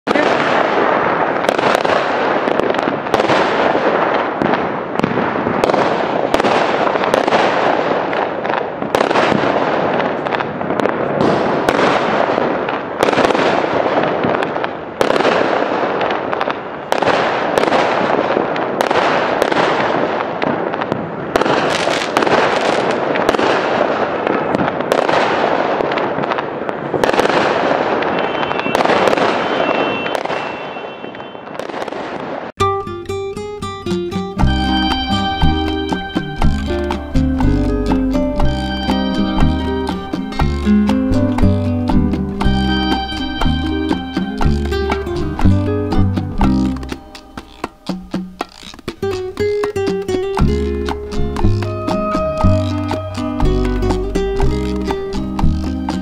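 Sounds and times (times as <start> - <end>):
fireworks banging: 0.0 - 56.0.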